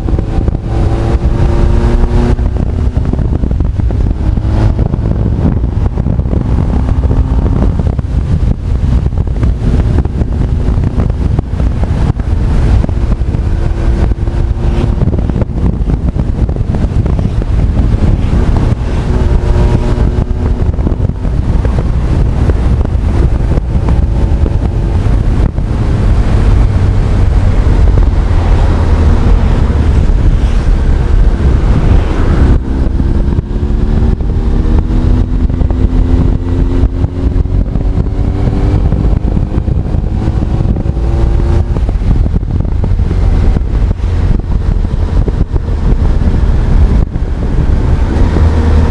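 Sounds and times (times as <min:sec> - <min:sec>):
motorcycle engine accelerating: 0:00.0 - 0:48.9
wind rumble on microphone: 0:00.0 - 0:48.9.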